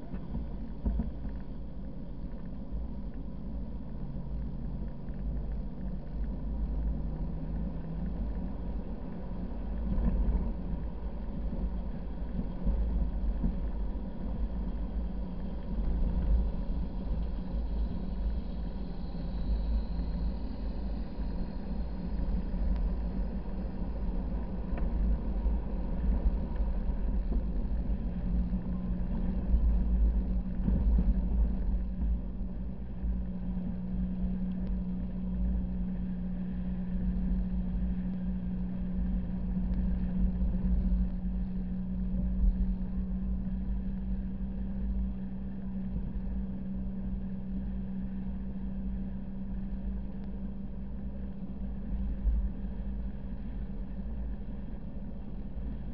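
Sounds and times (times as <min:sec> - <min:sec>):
car engine drone: 0:00.0 - 0:55.9.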